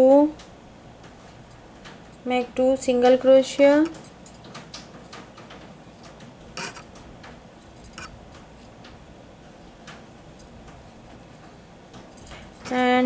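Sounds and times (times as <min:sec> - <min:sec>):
low steady background hum: 0:00.0 - 0:13.0.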